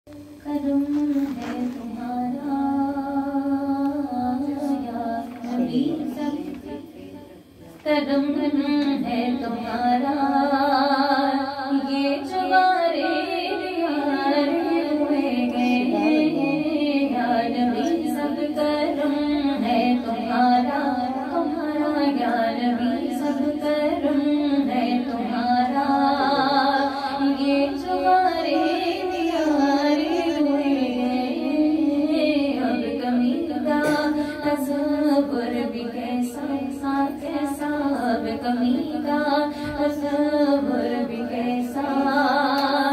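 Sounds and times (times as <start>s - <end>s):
woman singing into a microphone: 0.2s - 42.9s.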